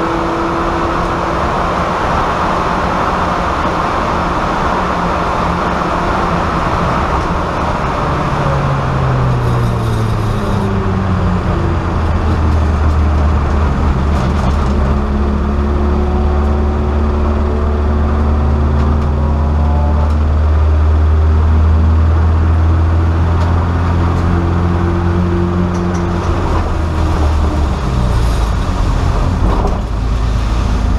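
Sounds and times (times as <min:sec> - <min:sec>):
race car engine from inside: 0:00.0 - 0:30.9
road noise: 0:00.0 - 0:30.9.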